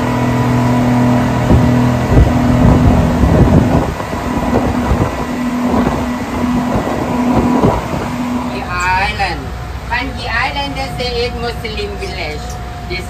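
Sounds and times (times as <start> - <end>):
rushing wind and water: 0.0 - 10.5
speedboat engine drone: 0.0 - 13.0.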